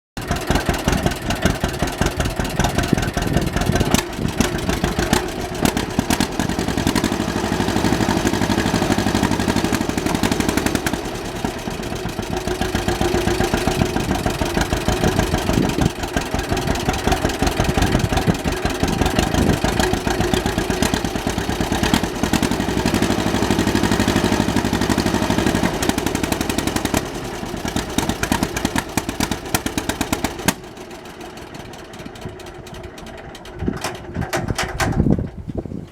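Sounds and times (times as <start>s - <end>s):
exhaust popping: 0.2s - 35.8s
tractor engine running: 0.2s - 35.9s.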